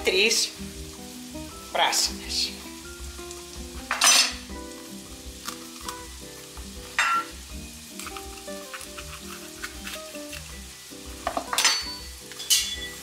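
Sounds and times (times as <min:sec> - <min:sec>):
onions sizzling in oil: 0:00.0 - 0:13.0
soft background music: 0:00.0 - 0:13.0.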